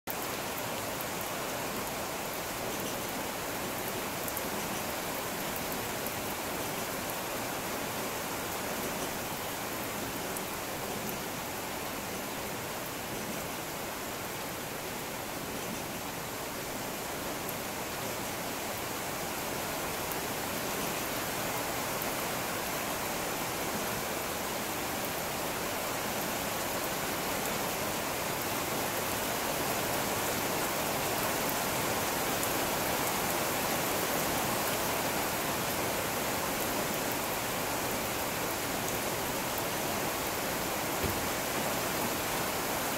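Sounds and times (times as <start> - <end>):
rain falling on wet floor: 0.1 - 42.9.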